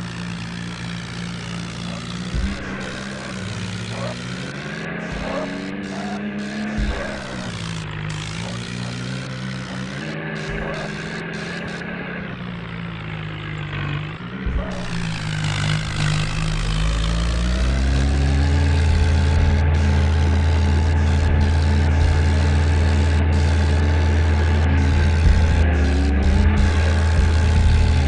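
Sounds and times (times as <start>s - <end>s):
tractor engine drone: 0.0s - 28.0s.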